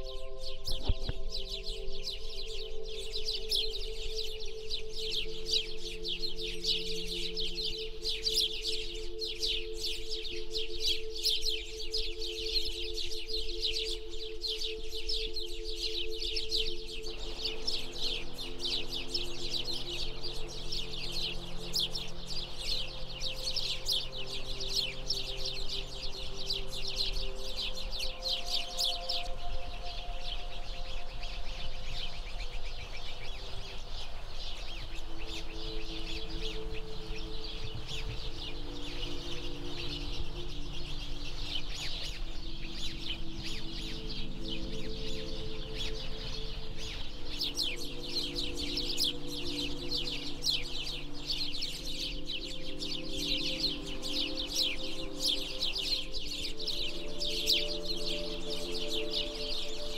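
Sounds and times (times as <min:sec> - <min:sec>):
small birds chirping: 0:00.0 - 0:59.9
soft long-held low tones: 0:00.0 - 0:59.9.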